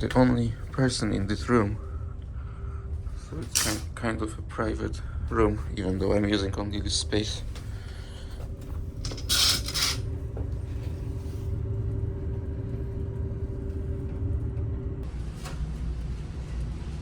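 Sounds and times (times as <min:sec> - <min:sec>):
ship engines low rumble: 0:00.0 - 0:17.0
steady hum: 0:00.0 - 0:17.0.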